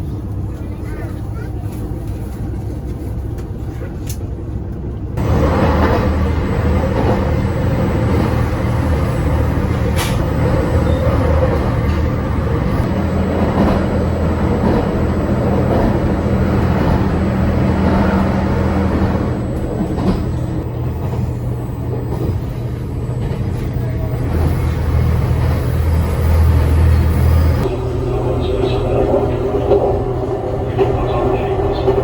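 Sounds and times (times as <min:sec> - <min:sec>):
vehicle engine droning: 0:05.2 - 0:32.0.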